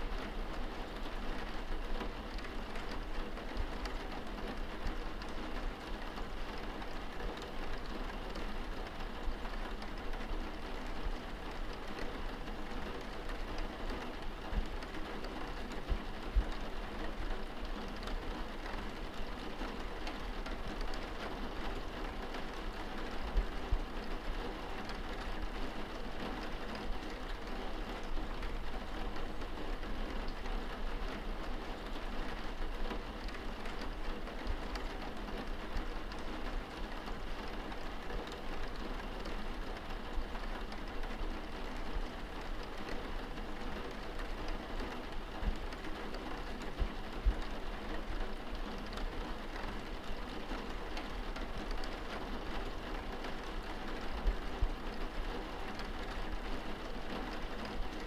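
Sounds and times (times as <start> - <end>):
rain pattering on window glass: 0.0 - 58.0.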